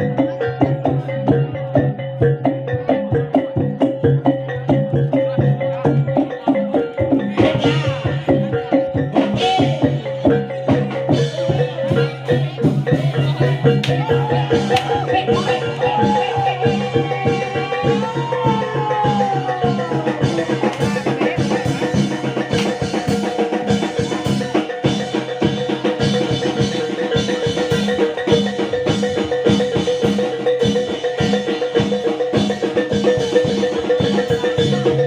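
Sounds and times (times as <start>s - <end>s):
hand drums: 0.0s - 35.0s
metal mallet percussion: 0.0s - 35.0s.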